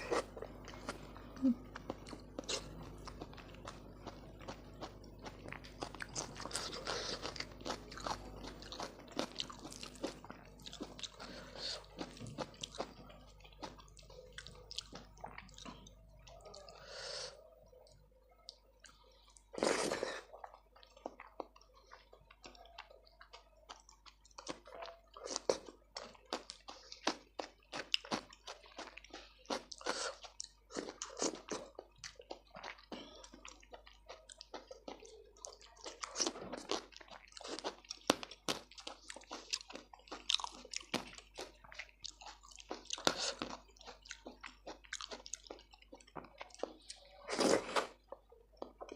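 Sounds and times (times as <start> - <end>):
food crunching: 0.0 - 17.1, 17.7 - 48.9
person chewing food: 0.0 - 48.9.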